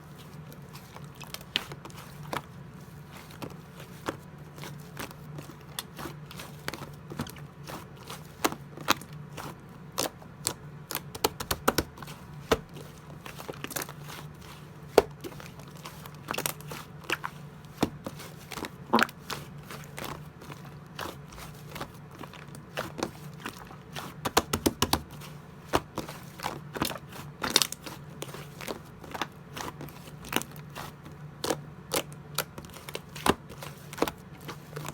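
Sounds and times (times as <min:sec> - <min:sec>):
slime being squished: 0:00.0 - 0:34.9.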